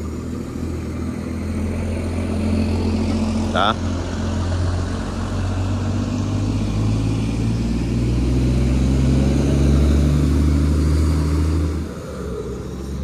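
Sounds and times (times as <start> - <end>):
vehicle engine rumble passing: 0.0 - 13.0.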